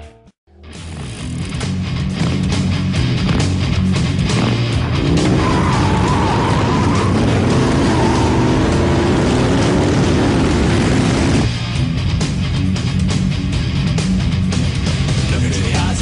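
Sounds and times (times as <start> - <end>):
distorted electric guitar lead: 0.0 - 15.1
bass and drums: 0.0 - 16.0.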